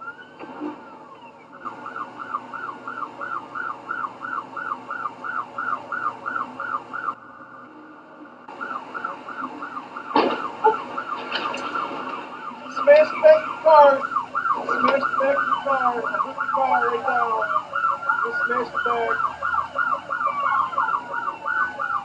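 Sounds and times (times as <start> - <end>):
siren yelping: 0.0 - 22.0.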